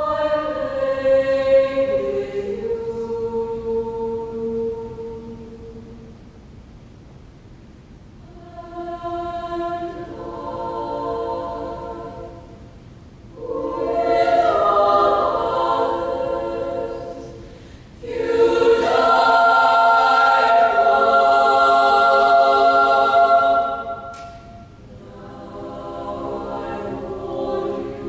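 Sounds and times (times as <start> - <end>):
girls' choir singing: 0.0 - 6.0, 8.3 - 12.7, 13.3 - 28.0.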